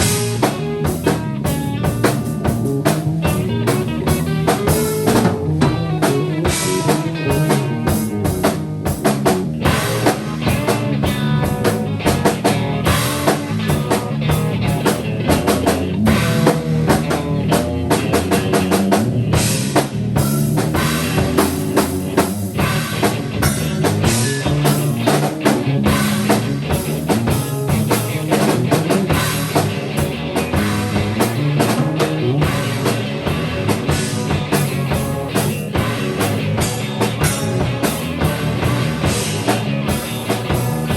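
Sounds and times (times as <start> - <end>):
drum kit playing busily: 0.0 - 40.9
live rock band playing: 0.0 - 40.9.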